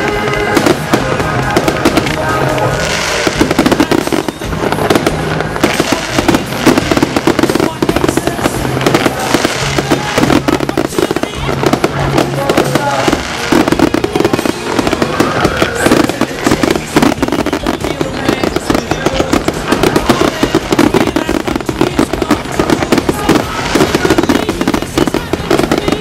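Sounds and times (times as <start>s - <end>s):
fireworks banging and crackling: 0.0s - 26.0s
loud music over sound system: 0.0s - 26.0s.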